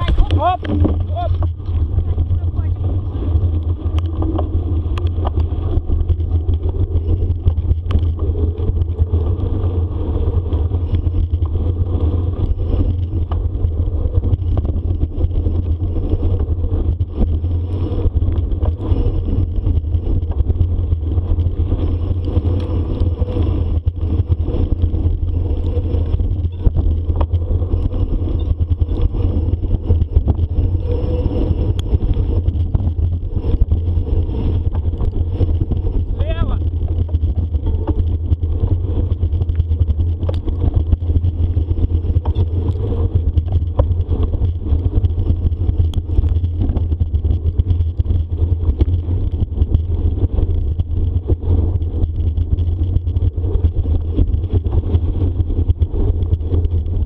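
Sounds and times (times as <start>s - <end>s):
bicycle knocks and rattles: 0.0s - 2.1s, 2.8s - 57.0s
wind and riding rumble: 0.0s - 57.0s.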